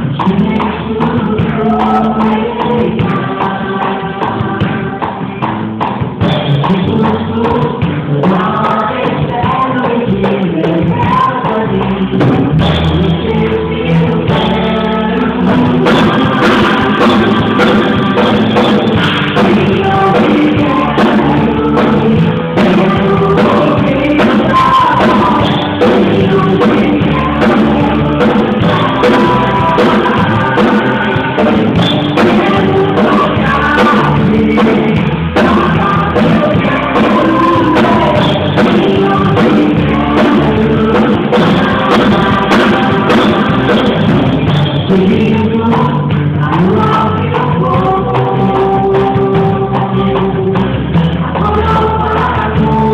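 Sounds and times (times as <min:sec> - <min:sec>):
band playing gospel song: 0:00.0 - 0:52.9.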